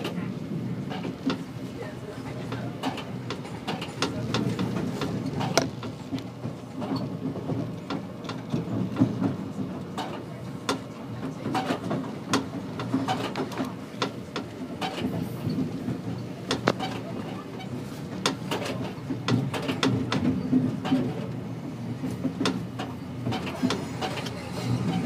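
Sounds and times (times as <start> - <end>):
train rumbling over rail joints: 0.0 - 25.0.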